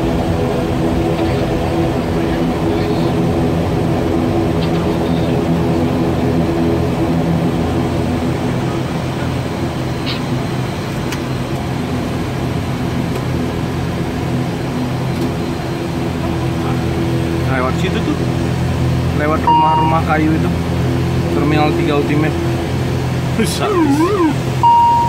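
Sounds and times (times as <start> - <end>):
turboprop engines droning: 0.0 - 25.0.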